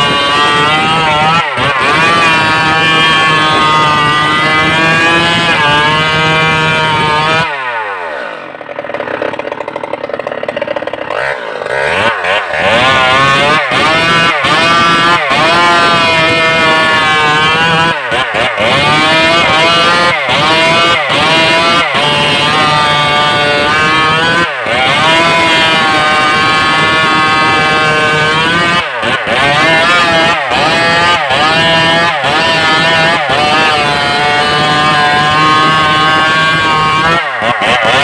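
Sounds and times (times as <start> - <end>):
chainsaw revving and idling: 0.0 - 38.0.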